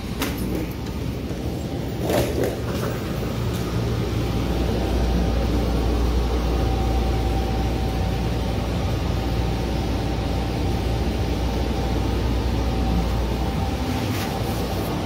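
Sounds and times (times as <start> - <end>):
train car drone: 0.0 - 15.0.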